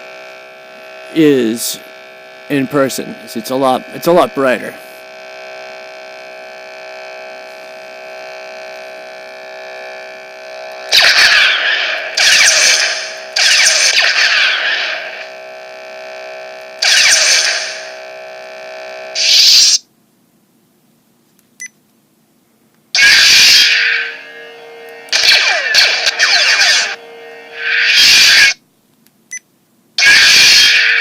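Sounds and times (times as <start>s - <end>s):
electric lightsaber hum: 0.0s - 19.9s, 22.9s - 28.6s, 30.0s - 31.0s.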